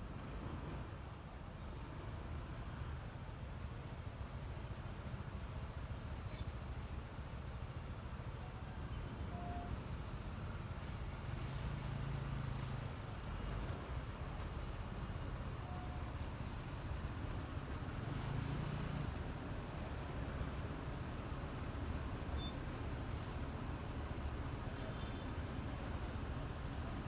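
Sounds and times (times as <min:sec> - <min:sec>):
road and wind rumble: 0:00.0 - 0:27.0.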